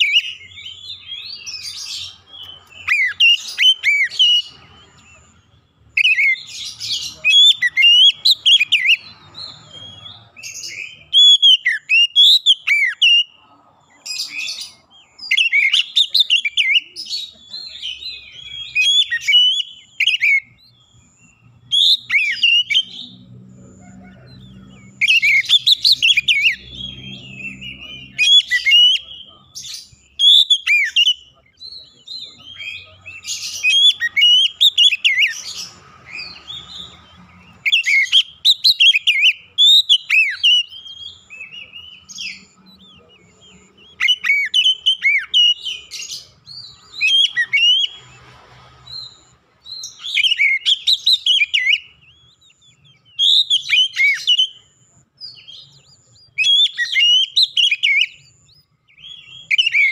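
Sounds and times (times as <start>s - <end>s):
bird singing whistles: 0.0s - 5.3s, 5.9s - 13.4s, 14.2s - 23.2s, 24.2s - 48.2s, 48.9s - 59.9s.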